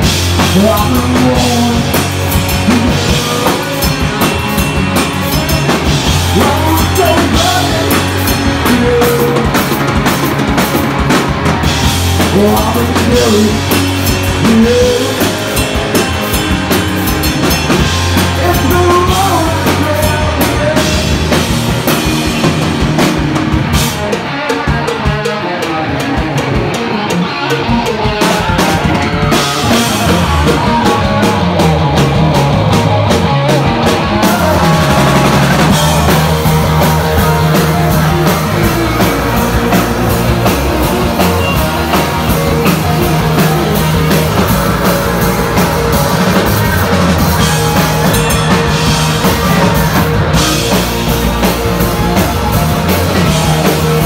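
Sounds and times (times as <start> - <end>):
drum kit: 0.0 - 54.0
electric bass: 0.0 - 54.0
electric guitars: 0.0 - 54.0.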